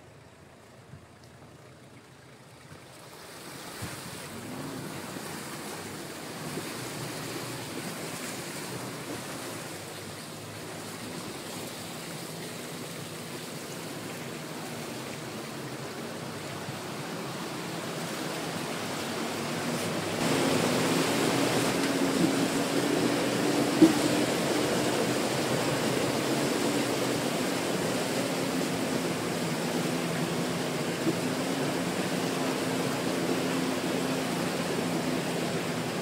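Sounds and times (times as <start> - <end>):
faint engine running: 0.0 - 36.0
water rushing and splashing: 0.6 - 36.0.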